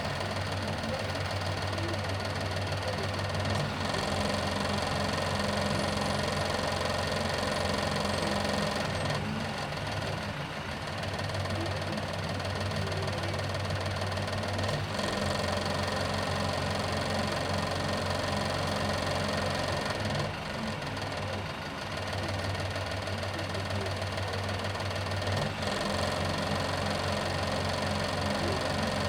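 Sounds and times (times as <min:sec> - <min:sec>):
car engine running: 0:00.0 - 0:29.0
road noise: 0:00.0 - 0:29.0.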